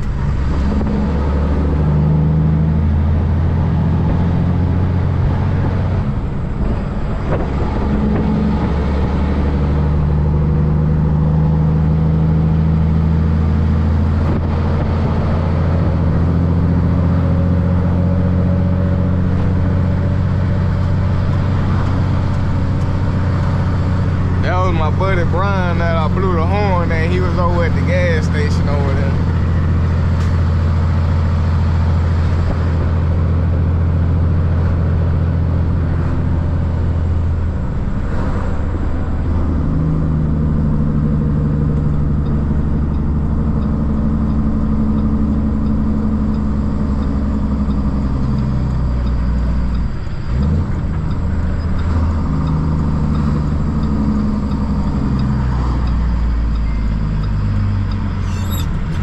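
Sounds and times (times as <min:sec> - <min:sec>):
truck diesel engine accelerating: 0:00.0 - 0:59.0.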